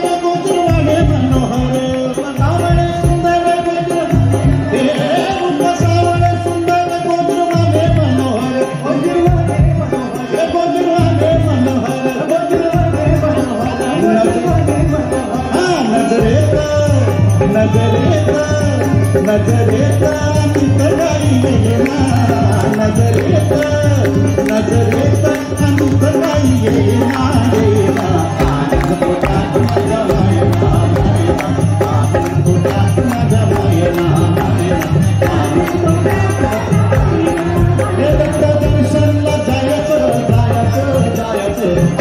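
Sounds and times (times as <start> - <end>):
hand drum: 0.0 - 42.0
keyboard accompaniment: 0.0 - 42.0
small percussion: 0.0 - 42.0
voices singing devotional song: 0.0 - 42.0.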